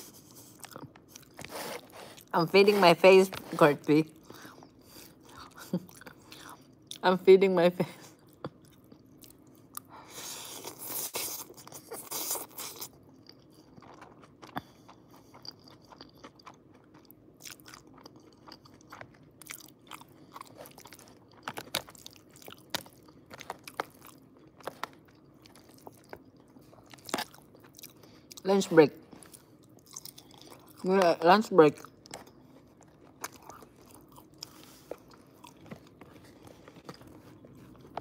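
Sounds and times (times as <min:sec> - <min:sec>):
soft chewing: 0:00.0 - 0:07.0, 0:08.0 - 0:38.0.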